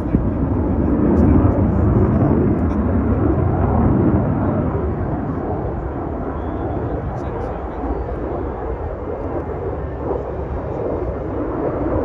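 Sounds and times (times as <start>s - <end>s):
jet engine rumble in flight: 0.0s - 12.0s.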